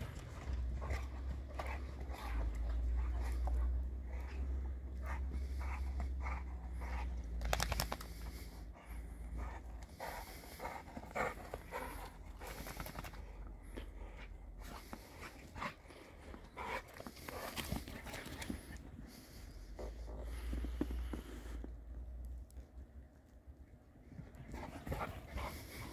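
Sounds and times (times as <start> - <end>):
dog panting: 0.0 - 21.5, 24.3 - 25.9.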